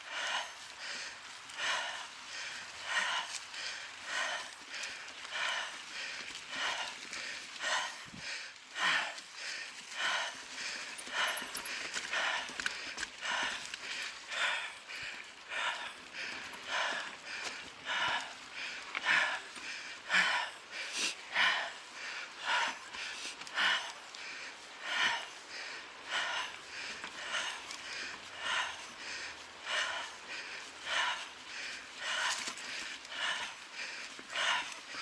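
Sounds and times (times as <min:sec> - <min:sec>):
person breathing hard: 0:00.0 - 0:35.0.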